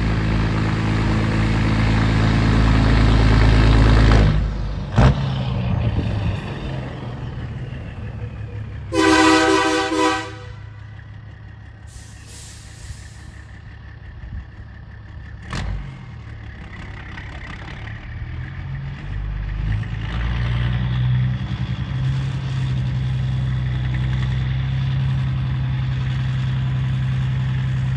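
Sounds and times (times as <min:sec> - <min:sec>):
truck diesel engine droning: 0:00.0 - 0:27.9.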